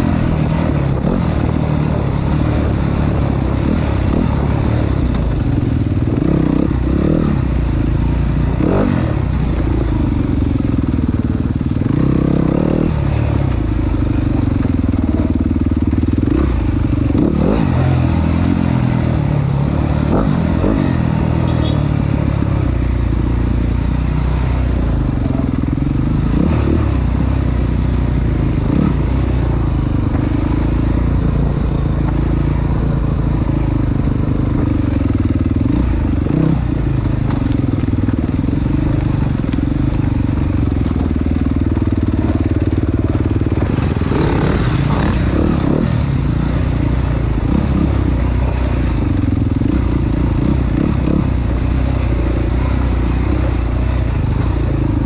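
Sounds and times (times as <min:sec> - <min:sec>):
dirt bike engine revving: 0:00.0 - 0:10.6, 0:11.2 - 0:55.0.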